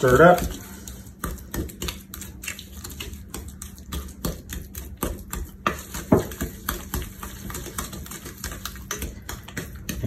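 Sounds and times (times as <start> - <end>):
spoon scraping mixing bowl: 0.0 - 10.0.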